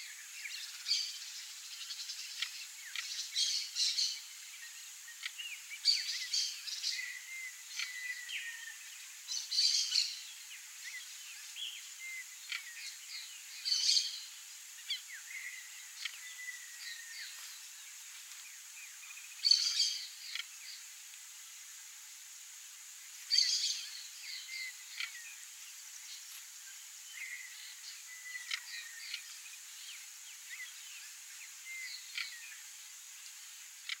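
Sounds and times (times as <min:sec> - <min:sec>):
high-pitched hiss: 0:00.0 - 0:34.0.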